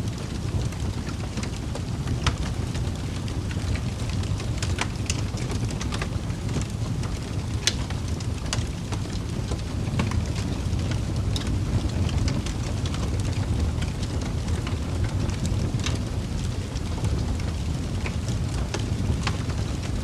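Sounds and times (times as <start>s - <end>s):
flames rumbling: 0.0s - 20.0s
wood fire crackling: 0.0s - 20.0s.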